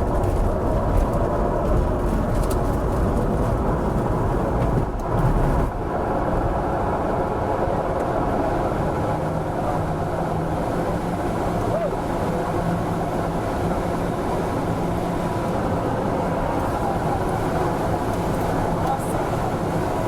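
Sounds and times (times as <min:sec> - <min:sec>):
wheel rumbling on runway: 0:00.0 - 0:20.0.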